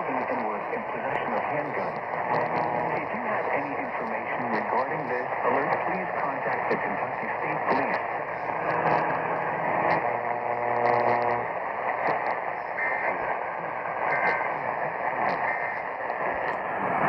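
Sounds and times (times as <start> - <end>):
radio static buzz: 0.0 - 17.0.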